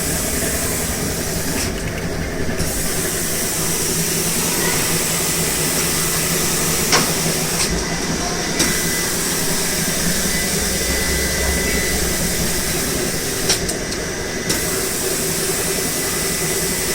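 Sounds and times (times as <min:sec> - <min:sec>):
machine hiss and hum: 0:00.0 - 0:16.9.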